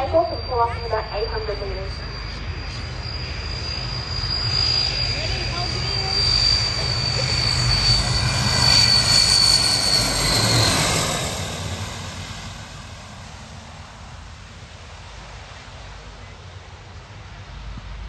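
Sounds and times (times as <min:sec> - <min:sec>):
turboprop aircraft landing: 0:00.0 - 0:18.0.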